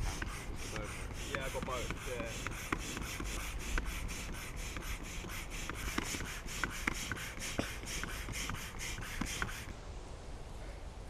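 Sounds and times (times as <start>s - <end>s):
air pump whooshing: 0.0s - 9.7s.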